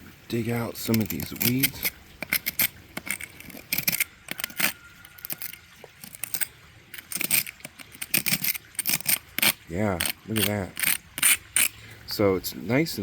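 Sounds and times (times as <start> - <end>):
metal blade scraping concrete: 0.6 - 11.8.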